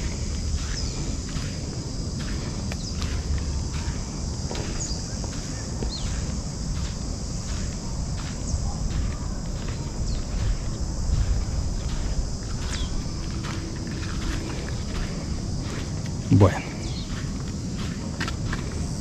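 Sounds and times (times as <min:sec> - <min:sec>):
footsteps on ground: 0:00.0 - 0:19.0
high insect chorus: 0:00.0 - 0:19.0
low microphone rumble: 0:00.0 - 0:19.0.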